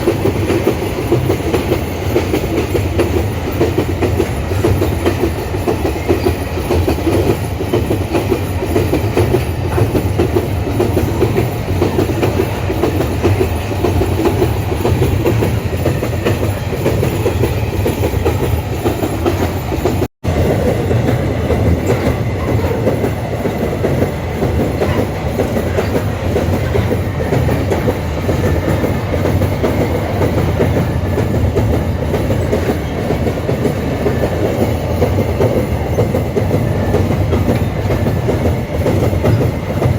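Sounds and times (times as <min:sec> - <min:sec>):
wagon wheels clattering over rail joints: 0:00.0 - 0:39.9.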